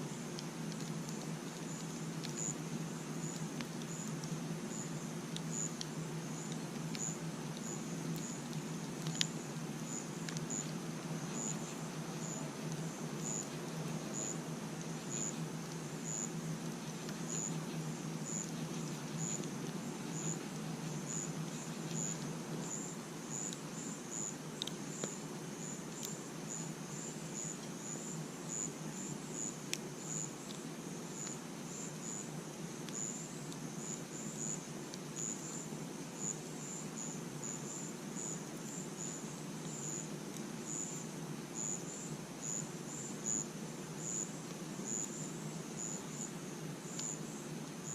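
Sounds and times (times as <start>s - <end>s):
crickets chirping: 0.0s - 47.9s
low steady background hiss: 0.0s - 47.9s.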